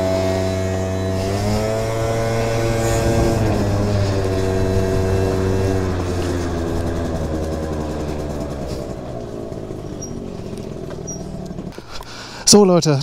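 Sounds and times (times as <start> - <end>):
scooter engine slowing down: 0.0 - 12.1.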